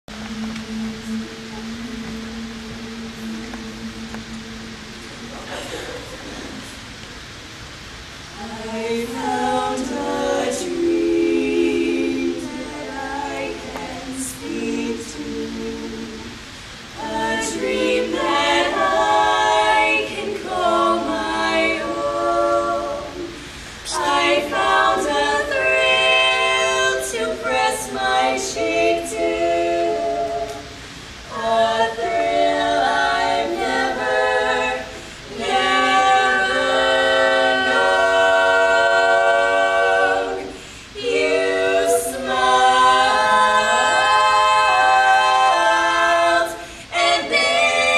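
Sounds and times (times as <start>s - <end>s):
women singing a cappella: 0.0s - 7.0s, 8.1s - 47.9s.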